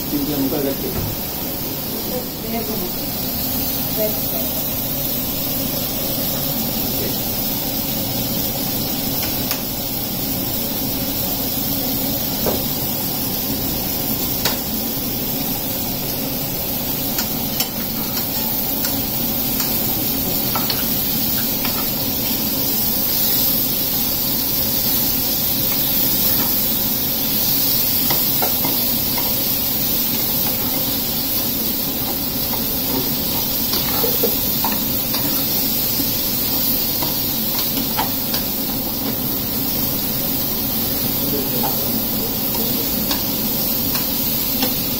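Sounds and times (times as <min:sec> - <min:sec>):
vegetables sizzling in a pan: 0:00.0 - 0:44.9.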